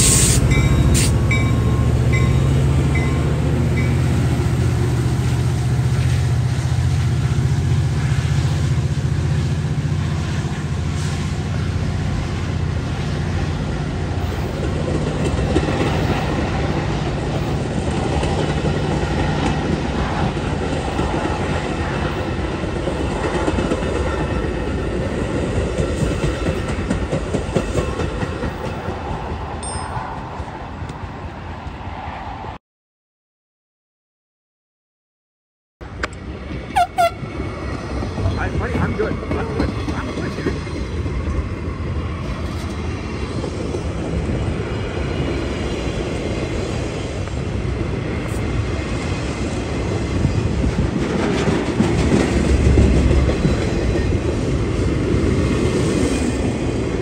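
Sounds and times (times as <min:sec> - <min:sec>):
train wheels rumbling over rails: 0:00.0 - 0:31.8, 0:35.8 - 0:57.0
diesel locomotive engine humming: 0:00.0 - 0:32.4, 0:35.8 - 0:57.0.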